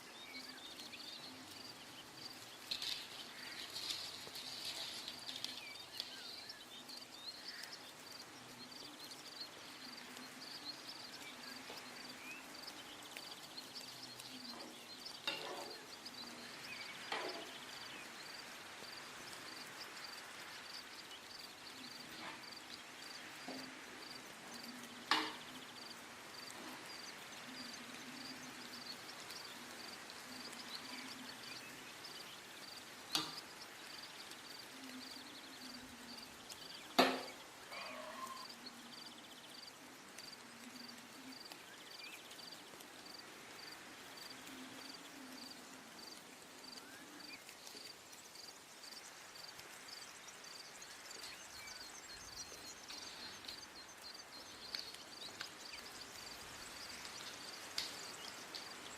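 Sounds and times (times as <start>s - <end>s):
faint insect chirping: 0.0s - 58.9s.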